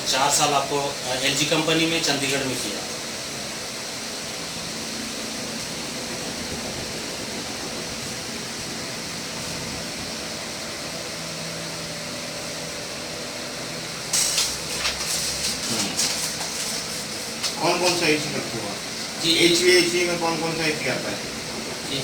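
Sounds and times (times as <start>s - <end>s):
air conditioner hiss and hum: 0.0s - 22.0s.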